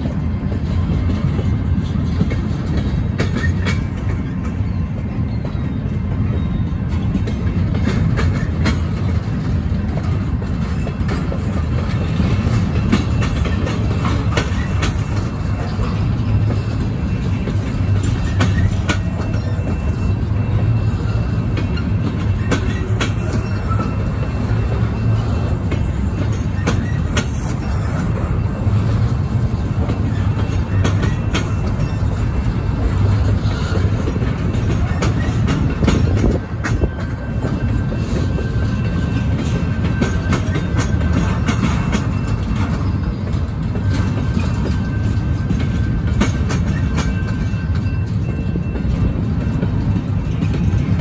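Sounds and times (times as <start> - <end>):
freight train wheels rumbling on rail: 0.0 - 51.0.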